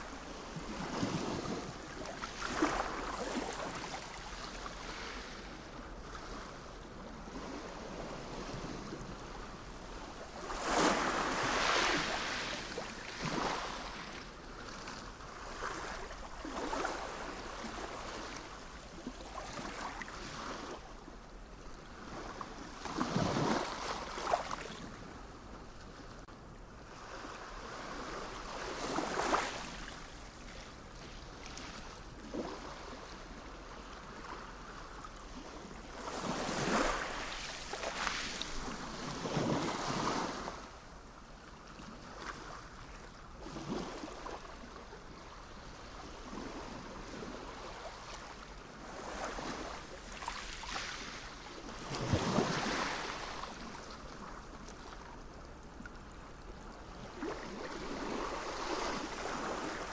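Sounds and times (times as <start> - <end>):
sea waves breaking on shore: 0.0 - 26.3, 26.9 - 40.8, 42.0 - 59.9.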